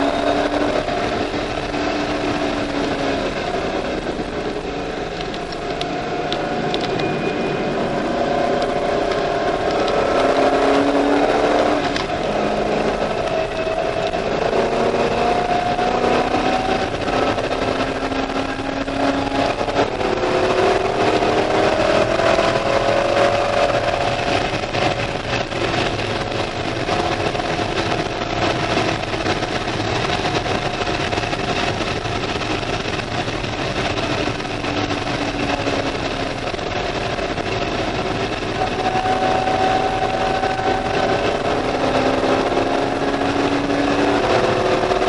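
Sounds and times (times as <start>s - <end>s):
car engine accelerating: 0.0s - 45.0s
tyre and wind noise: 0.0s - 45.0s.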